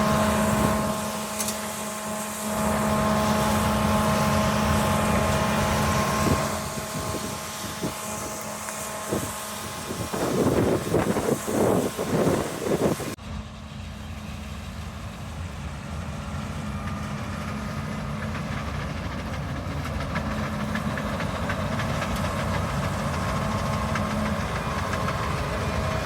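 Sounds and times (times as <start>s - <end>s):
large vehicle engine running: 0.0s - 26.0s.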